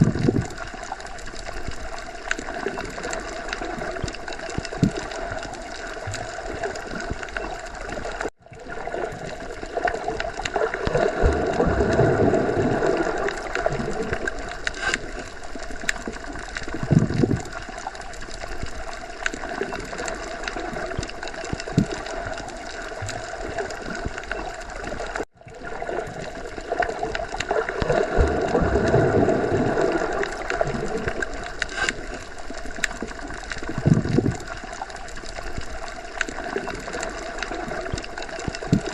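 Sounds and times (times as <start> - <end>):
muffled underwater wash: 0.0 - 38.9.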